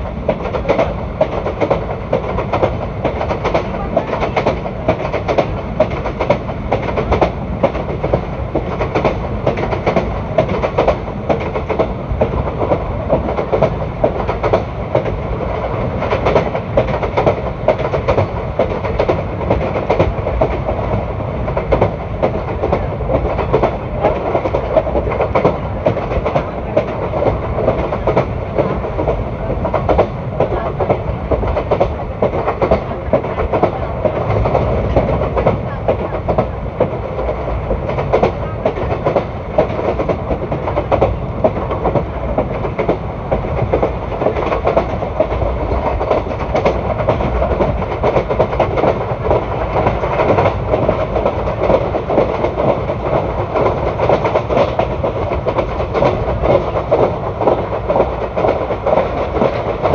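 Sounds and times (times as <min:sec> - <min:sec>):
train wheels rumbling on rail: 0:00.0 - 0:59.9
wheels clicking over rail joints: 0:00.2 - 0:59.9.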